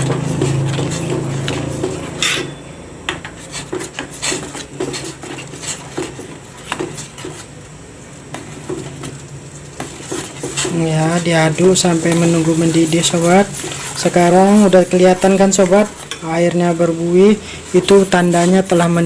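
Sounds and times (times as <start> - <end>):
spoon stirring in a pot: 0.0 - 19.0.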